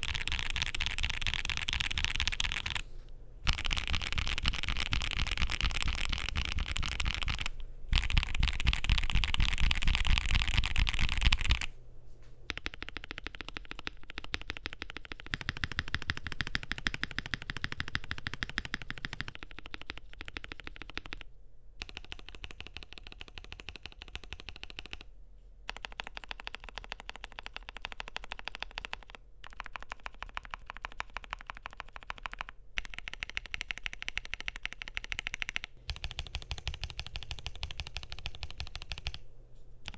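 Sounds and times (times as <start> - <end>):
fast typing on mechanical keyboard: 0.0 - 2.8, 3.4 - 11.7, 12.5 - 25.1, 25.7 - 39.2.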